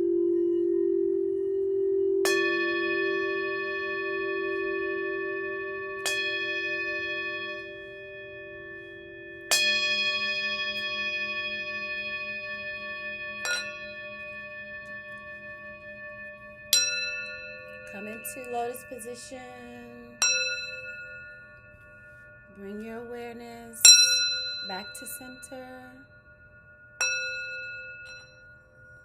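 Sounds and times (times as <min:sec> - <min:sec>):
low steady bowl tone: 0:00.0 - 0:29.0
singing bowl strikes ringing: 0:00.0 - 0:29.0.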